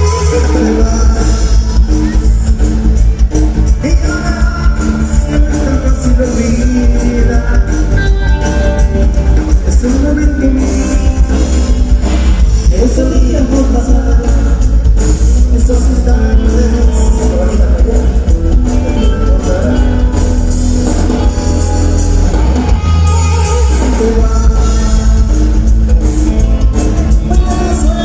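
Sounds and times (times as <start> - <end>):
live rock band playing: 0.0 - 28.0
person singing: 0.0 - 28.0.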